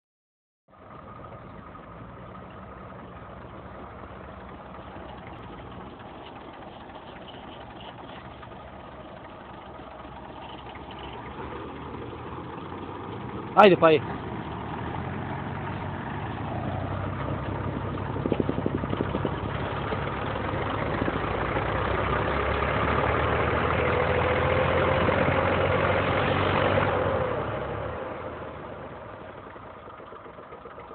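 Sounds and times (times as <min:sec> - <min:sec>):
diesel tractor engines: 0:00.7 - 0:30.9.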